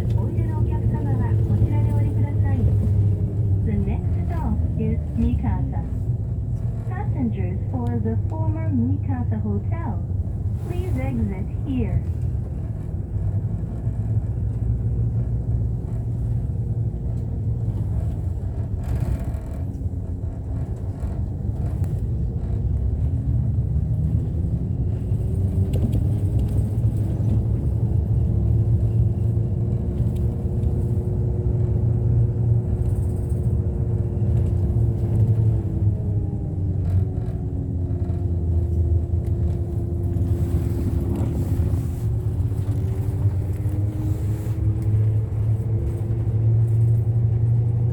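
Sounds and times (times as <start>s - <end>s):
bus engine and road rumble: 0.0s - 47.9s.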